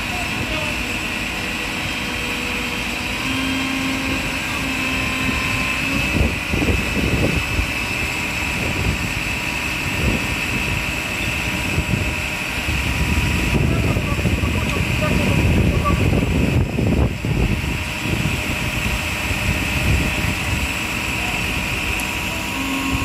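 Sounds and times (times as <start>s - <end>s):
fire engine diesel engines running: 0.0s - 23.0s
high whine: 0.0s - 23.0s.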